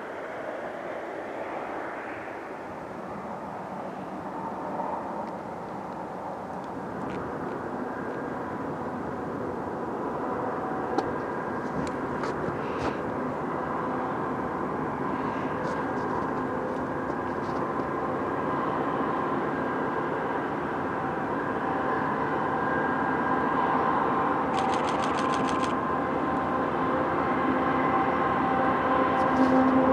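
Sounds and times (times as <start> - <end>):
train engine drone: 0.0 - 29.9.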